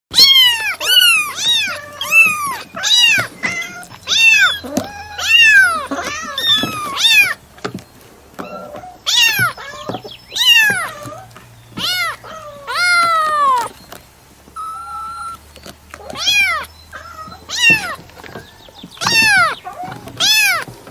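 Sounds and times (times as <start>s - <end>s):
cat meowing: 0.1s - 7.4s, 8.4s - 13.7s, 14.6s - 15.4s, 16.0s - 20.7s.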